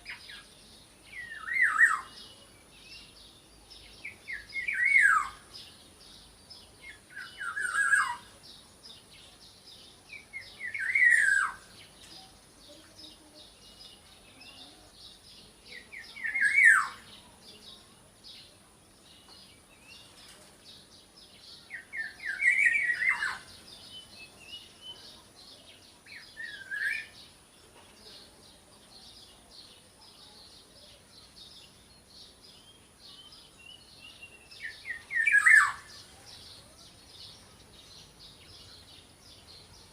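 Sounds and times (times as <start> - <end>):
faint high twittering: 0.0 - 39.9.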